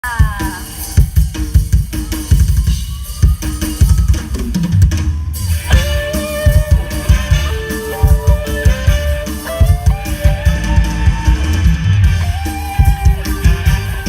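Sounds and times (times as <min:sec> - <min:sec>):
band music: 0:00.0 - 0:14.0
drum kit beat: 0:00.0 - 0:14.0.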